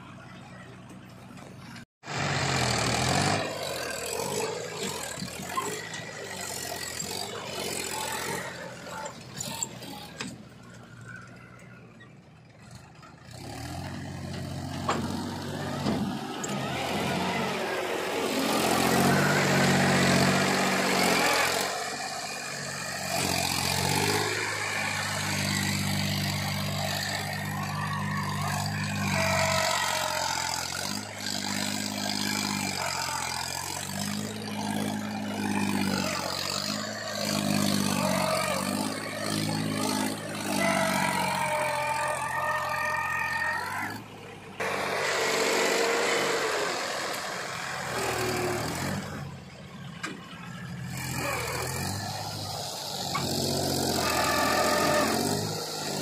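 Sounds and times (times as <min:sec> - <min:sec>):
tractor diesel engine labouring: 0:00.0 - 0:56.0.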